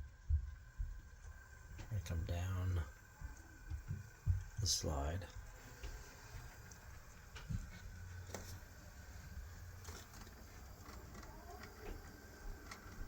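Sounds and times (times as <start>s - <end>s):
faint electric motor hum: 0.0s - 13.0s
wheels clicking on track: 1.3s - 13.0s.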